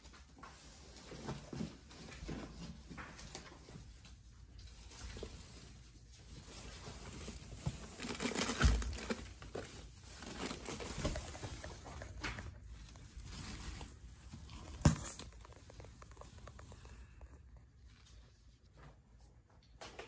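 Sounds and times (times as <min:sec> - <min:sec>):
foam and cardboard rustling: 0:00.5 - 0:17.2.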